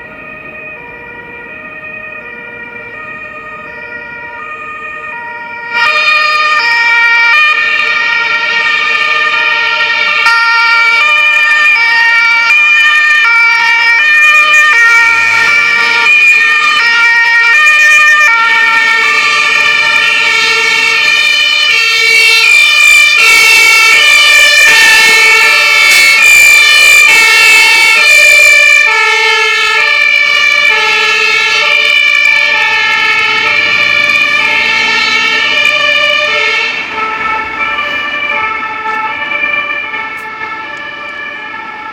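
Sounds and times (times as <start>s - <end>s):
two-tone fire engine sirens: 0.0s - 41.9s.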